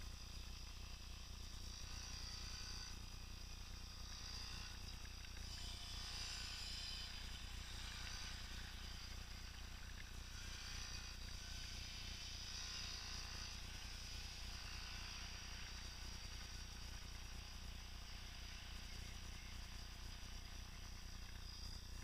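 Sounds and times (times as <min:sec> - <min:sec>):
dirt bike engine buzzing: 0:00.0 - 0:22.0.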